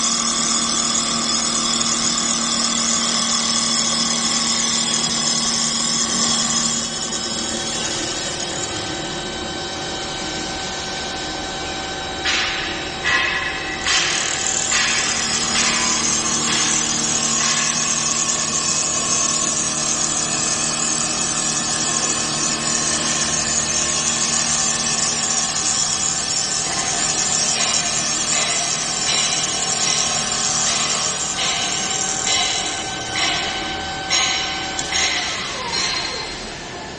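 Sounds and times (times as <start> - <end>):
motor hum: 0.0 - 36.9.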